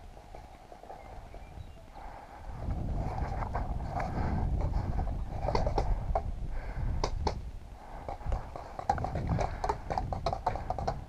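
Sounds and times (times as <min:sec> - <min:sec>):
low rumble on microphone: 0:01.0 - 0:11.0.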